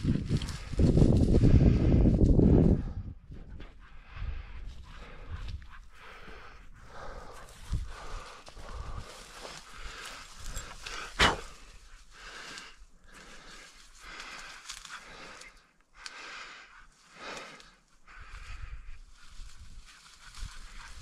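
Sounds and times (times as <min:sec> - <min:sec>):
footsteps swishing through dry grass: 0:00.0 - 0:15.5, 0:18.2 - 0:21.0
heavy breathing: 0:00.5 - 0:19.4.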